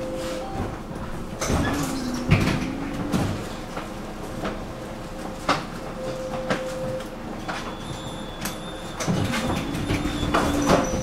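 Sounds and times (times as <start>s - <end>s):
tram hum: 0.0s - 11.0s
tram wheels knocking and rattling: 0.0s - 11.0s.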